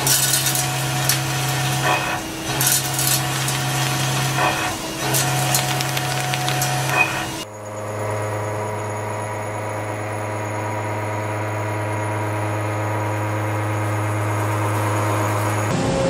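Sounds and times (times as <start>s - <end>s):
milling machine drone: 0.4s - 15.7s.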